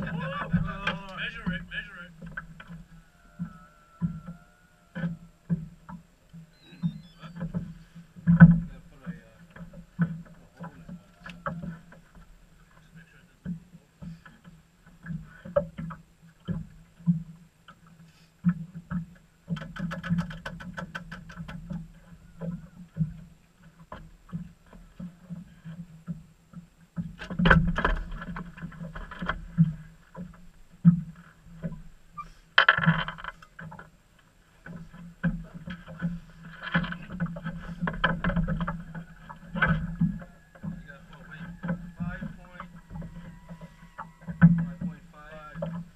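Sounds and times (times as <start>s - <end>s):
water lapping at hull: 0.0s - 45.9s.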